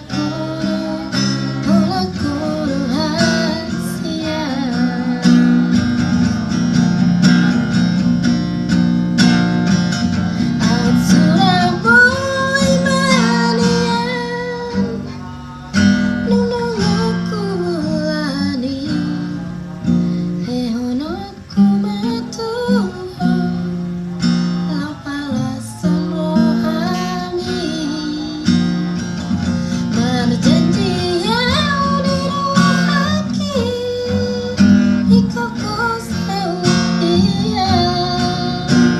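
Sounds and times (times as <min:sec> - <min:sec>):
woman singing a ballad: 0:00.0 - 0:06.2, 0:10.1 - 0:15.2, 0:16.0 - 0:19.4, 0:20.4 - 0:23.8, 0:24.6 - 0:38.9
strummed acoustic guitar: 0:00.0 - 0:38.9.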